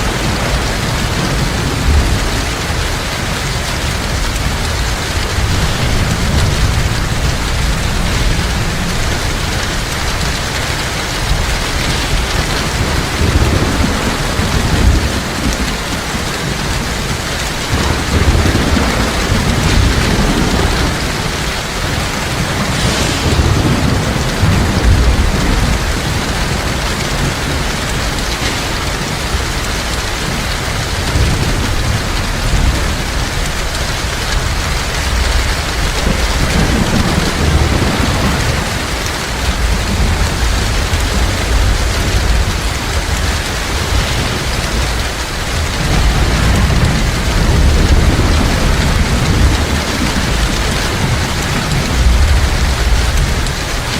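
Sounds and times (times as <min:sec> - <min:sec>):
heavy rain falling: 0:00.0 - 0:53.9
low thunder rolling: 0:00.0 - 0:53.9.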